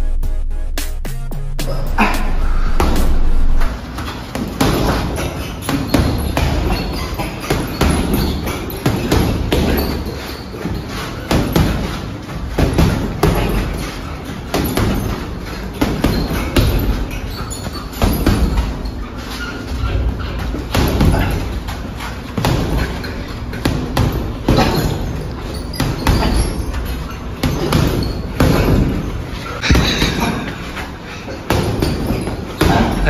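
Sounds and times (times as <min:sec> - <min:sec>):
punches thudding on heavy bag: 0:02.2 - 0:19.0, 0:19.7 - 0:33.0.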